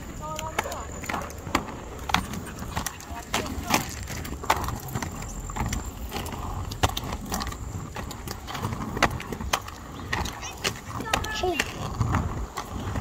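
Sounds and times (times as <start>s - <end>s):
roller skate wheels rolling on concrete: 0.0s - 13.0s.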